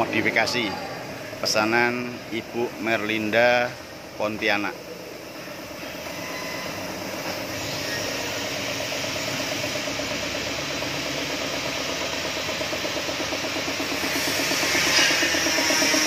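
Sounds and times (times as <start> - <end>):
diesel engine knocking: 0.0 - 16.0.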